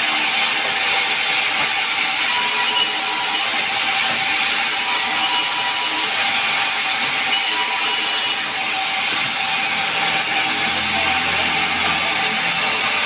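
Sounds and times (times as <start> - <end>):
saw cutting through log: 0.0 - 13.0.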